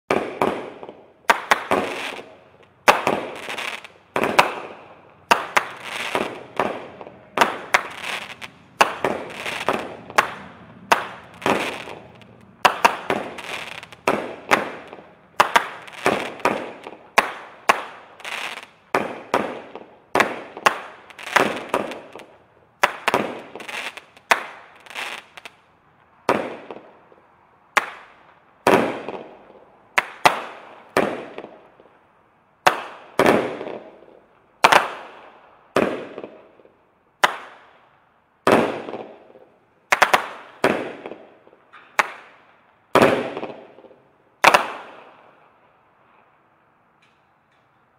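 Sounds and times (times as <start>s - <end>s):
fireworks bangs: 0.1s - 25.6s, 26.2s - 31.8s, 32.6s - 36.6s, 38.4s - 45.2s
fireworks crackling: 0.1s - 32.0s, 38.5s - 45.2s.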